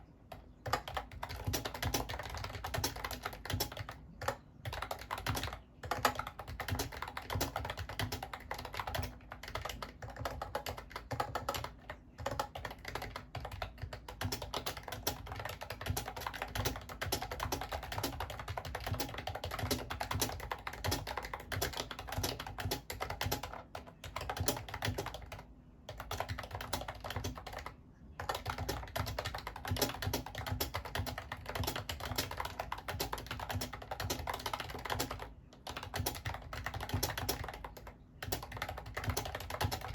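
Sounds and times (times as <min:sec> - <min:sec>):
fast keyboard typing: 0:00.2 - 0:39.9.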